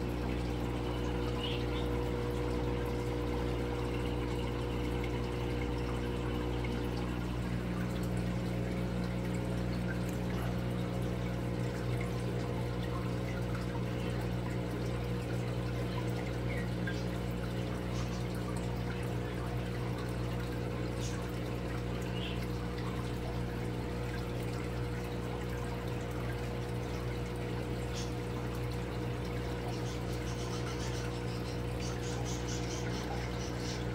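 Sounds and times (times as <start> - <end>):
aquarium filter water bubbling: 0.0 - 33.9
steady low hum: 0.0 - 33.9.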